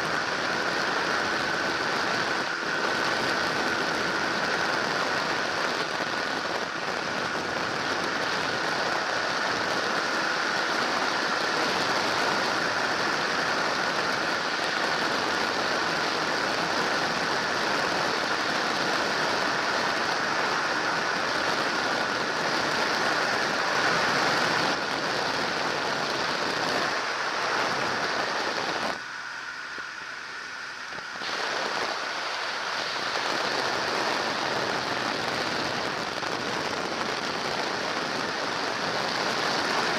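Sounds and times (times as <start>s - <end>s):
aircraft engine and propeller drone: 0.0s - 39.9s
wind rush on microphone: 0.0s - 39.9s.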